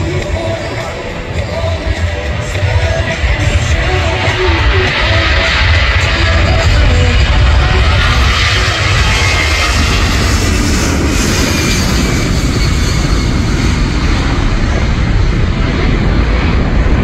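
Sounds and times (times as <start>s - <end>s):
jet engines at take-off power: 0.0s - 17.0s.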